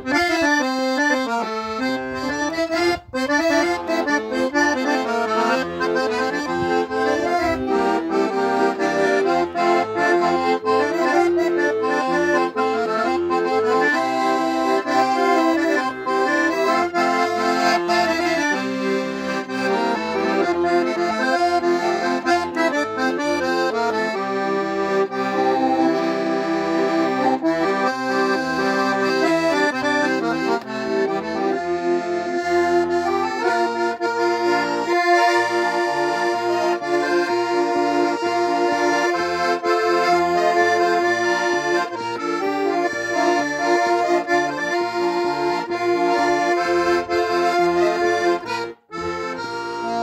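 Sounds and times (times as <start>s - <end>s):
accordion playing folk tune: 0.0s - 50.0s.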